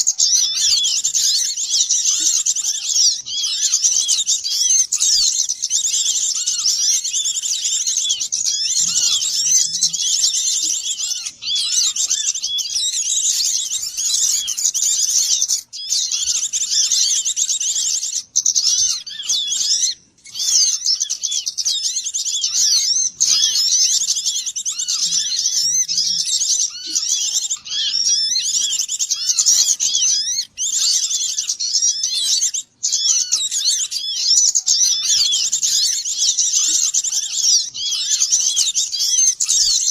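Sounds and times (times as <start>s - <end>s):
flock of birds twittering: 0.0s - 39.9s.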